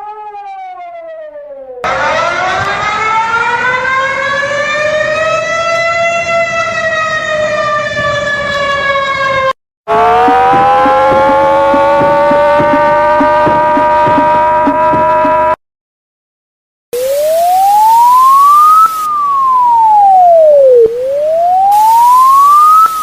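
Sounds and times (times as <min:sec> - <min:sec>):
warning siren wailing: 0:00.0 - 0:15.6, 0:17.0 - 0:23.0.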